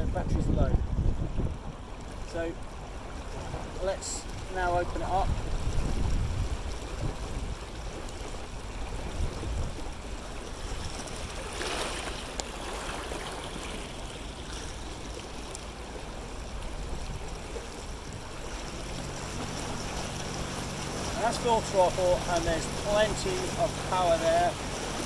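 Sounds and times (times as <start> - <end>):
water rushing and splashing: 0.0 - 25.0.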